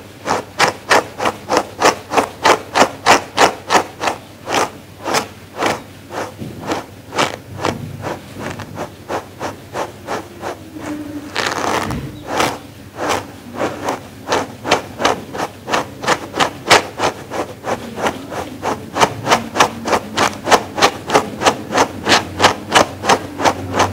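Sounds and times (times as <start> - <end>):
brush strokes on fleece: 0.0 - 23.9.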